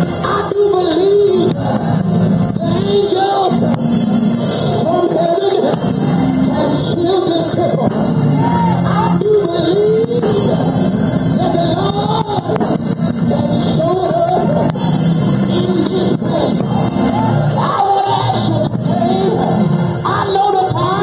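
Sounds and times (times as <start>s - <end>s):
live gospel music: 0.0s - 21.0s
people singing and shouting: 0.0s - 21.0s.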